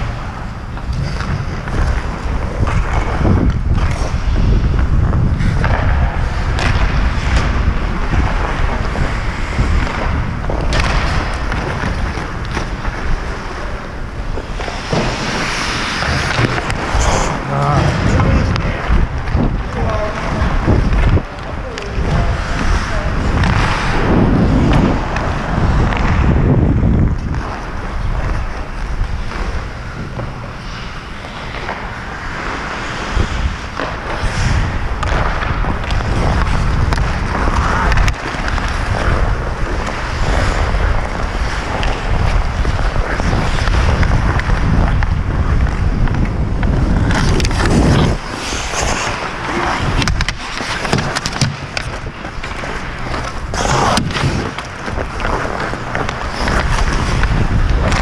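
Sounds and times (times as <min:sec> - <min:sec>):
skate blades scraping on ice: 0:00.0 - 0:58.0
wind rumbling on microphone: 0:00.0 - 0:58.0.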